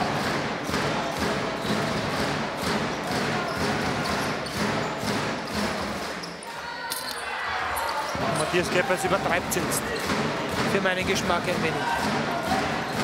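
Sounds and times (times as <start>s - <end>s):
arena crowd noise: 0.0s - 13.0s.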